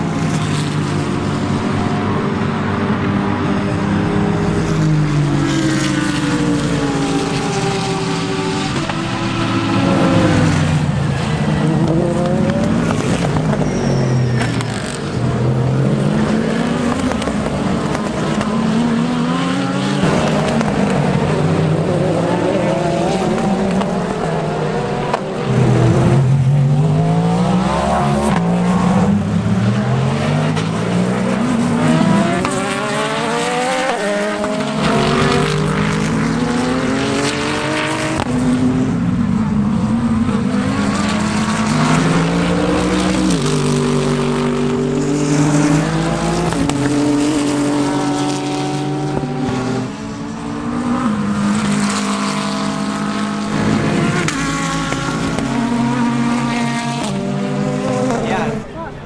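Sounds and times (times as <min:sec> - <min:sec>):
race car engines accelerating: 0:00.0 - 0:59.0.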